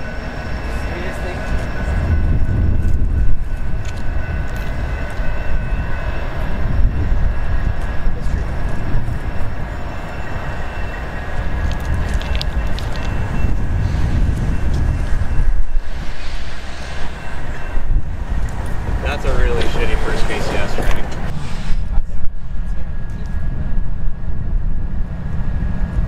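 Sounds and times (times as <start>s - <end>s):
diesel locomotive rumble: 0.0s - 26.0s.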